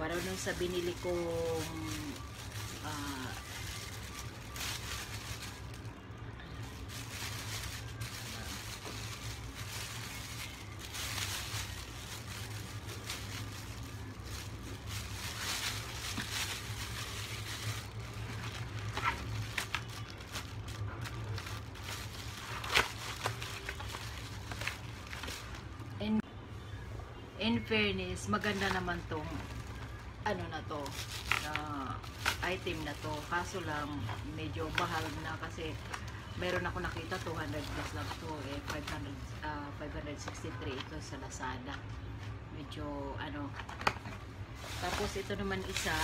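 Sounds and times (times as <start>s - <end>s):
plastic packaging rustling: 0.0s - 26.0s, 28.2s - 41.2s, 43.5s - 46.0s.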